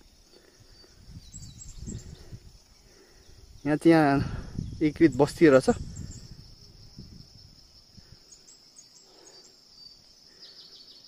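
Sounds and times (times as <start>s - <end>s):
faint chirps: 0.0s - 11.0s
insects trilling: 0.0s - 11.0s.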